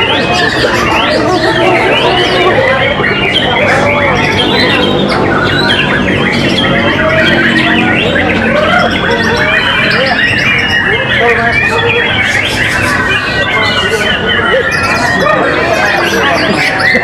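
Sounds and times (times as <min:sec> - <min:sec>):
other birds calling: 0:00.0 - 0:17.0.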